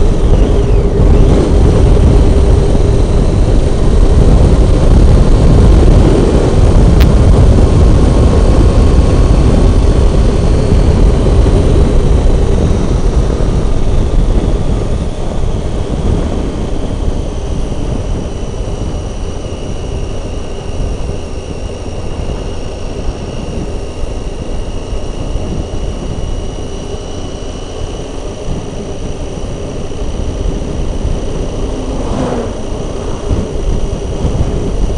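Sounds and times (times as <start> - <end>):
faint steady whine: 0.0 - 34.9
motorcycle engine running: 0.0 - 34.9
wind rush on microphone: 0.0 - 34.9.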